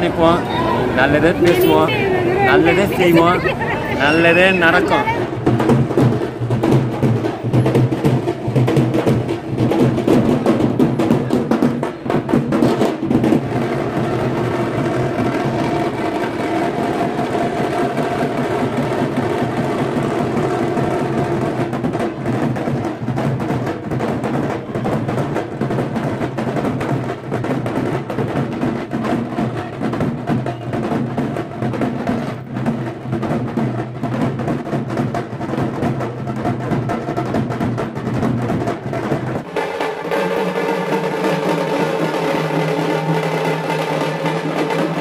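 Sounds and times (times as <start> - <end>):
music with busy drum beat: 0.0 - 45.0.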